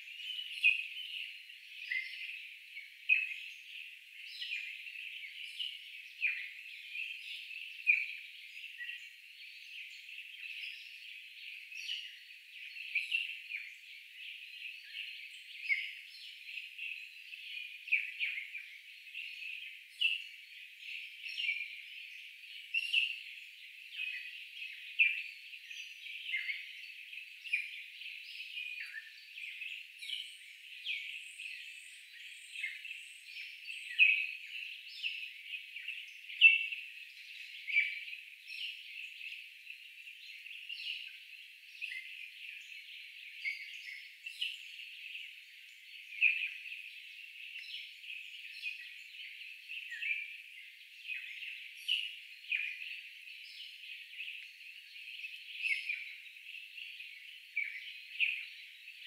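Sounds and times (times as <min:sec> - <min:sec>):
chorus of birds chirping: 0:00.0 - 0:59.0.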